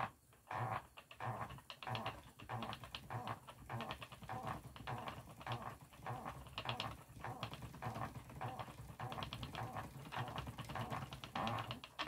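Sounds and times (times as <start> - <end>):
spinning wheel knocking and clattering: 1.1 - 12.0.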